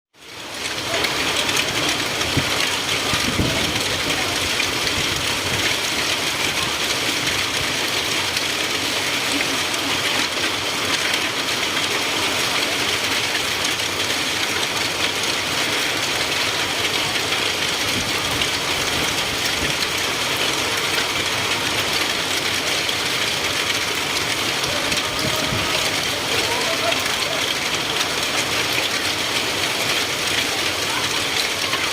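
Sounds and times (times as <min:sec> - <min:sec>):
hail and heavy rain clattering: 0:00.2 - 0:31.9.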